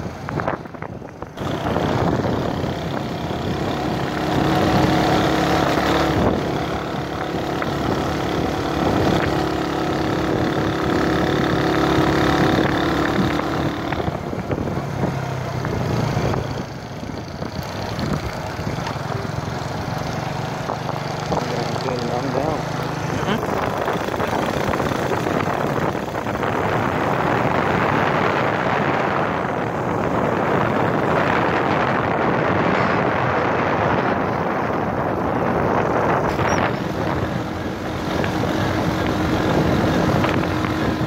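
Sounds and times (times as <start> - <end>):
tyres on gravel road noise: 0.0 - 41.0
vehicle engine running: 0.0 - 41.0
wind: 0.0 - 41.0.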